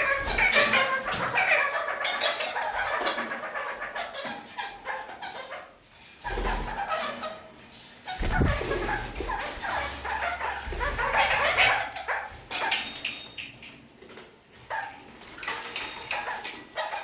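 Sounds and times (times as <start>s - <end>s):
parakeets chattering: 0.0s - 13.4s, 14.7s - 17.0s.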